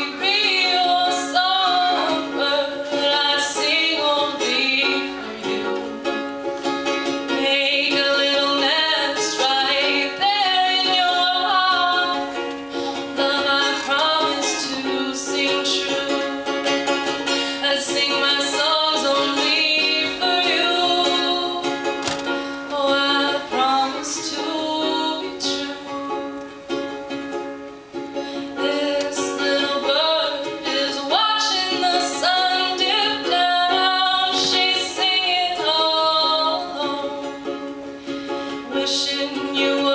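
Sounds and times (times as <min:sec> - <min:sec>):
woman singing: 0:00.0 - 0:26.4, 0:28.4 - 0:39.9
ukulele strumming: 0:00.0 - 0:39.9.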